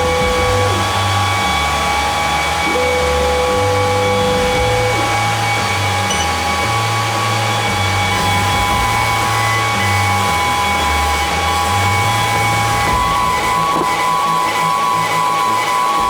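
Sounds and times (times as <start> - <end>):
cooling fan noise: 0.0 - 16.0
stepper motor whine: 0.0 - 16.0.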